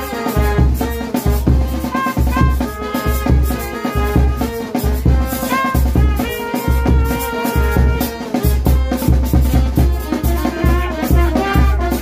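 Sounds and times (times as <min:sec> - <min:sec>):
bass drum beat: 0:00.0 - 0:12.0
brass band playing: 0:00.0 - 0:12.0
shaker and drum percussion: 0:00.0 - 0:12.0.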